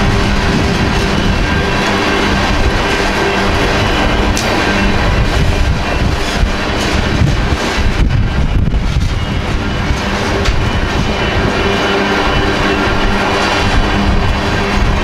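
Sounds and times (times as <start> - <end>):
crossing warning bell ringing: 0.0 - 15.0
train wheels rumbling on rails: 0.0 - 15.0
wheels clacking on rail joints: 0.0 - 15.0.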